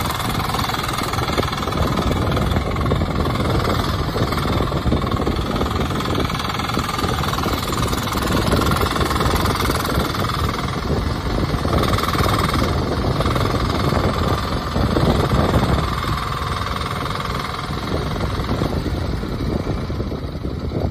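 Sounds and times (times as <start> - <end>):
high whine: 0.0 - 20.4
diesel engine running: 0.0 - 20.9.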